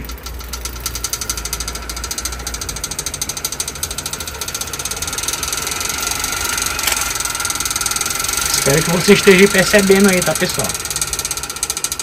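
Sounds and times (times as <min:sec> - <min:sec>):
faint steady whine: 0:00.0 - 0:12.0
rapid mechanical clicking: 0:00.0 - 0:12.0.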